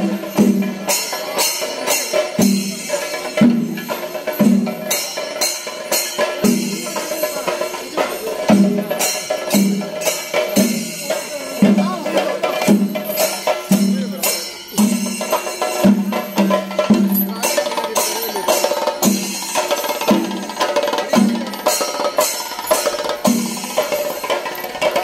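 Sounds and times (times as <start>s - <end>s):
drums playing driving rhythm: 0.0s - 25.0s
hand cymbals: 0.0s - 25.0s.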